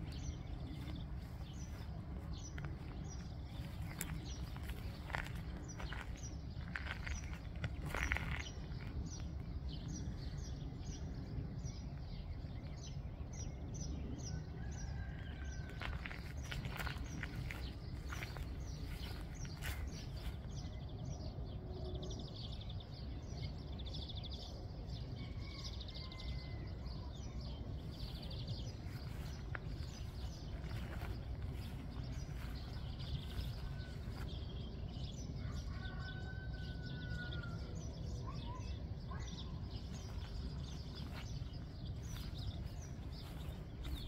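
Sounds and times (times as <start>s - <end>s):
small birds chirping and singing: 0.0s - 44.0s.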